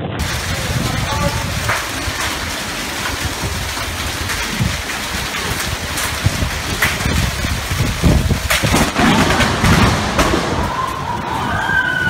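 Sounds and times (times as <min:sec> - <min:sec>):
heavy rain pouring: 0:00.0 - 0:12.0
wind rumbling on microphone: 0:00.0 - 0:12.0.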